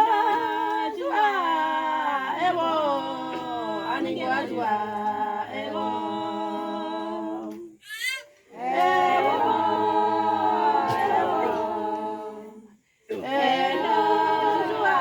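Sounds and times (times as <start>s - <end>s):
women's choir singing a hymn: 0.0s - 7.8s, 8.4s - 15.0s.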